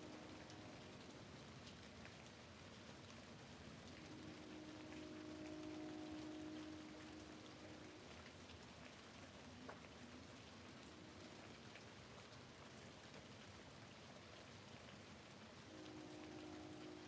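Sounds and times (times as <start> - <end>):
rain ticking on window pane: 0.0 - 17.0.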